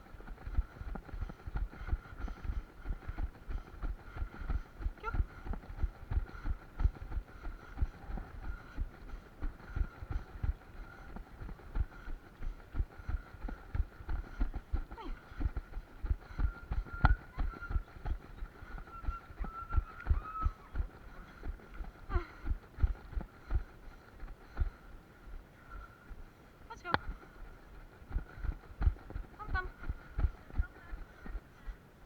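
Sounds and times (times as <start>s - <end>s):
running footsteps on a trail: 0.0s - 32.0s.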